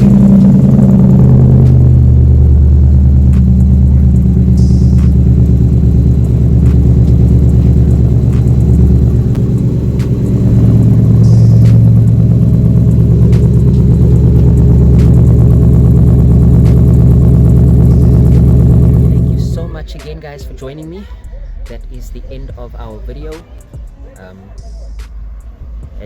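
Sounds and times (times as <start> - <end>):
pickup truck engine idling: 0.0 - 26.0.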